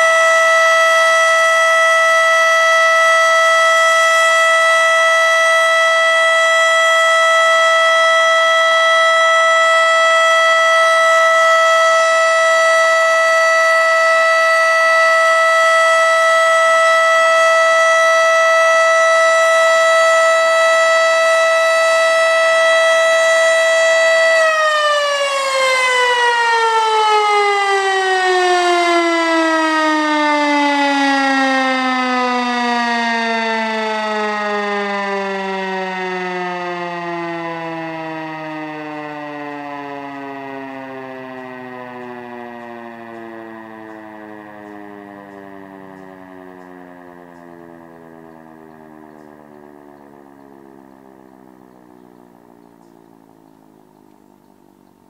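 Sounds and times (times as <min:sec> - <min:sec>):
siren winding down: 0:00.0 - 0:55.0
warning siren alert tone: 0:00.0 - 0:55.0.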